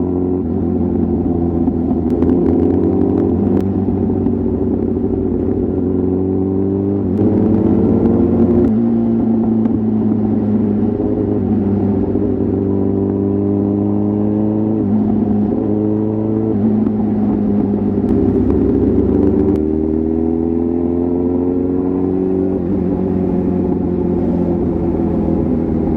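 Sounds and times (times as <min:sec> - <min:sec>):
motorcycle engine shifting gears: 0:00.0 - 0:25.9.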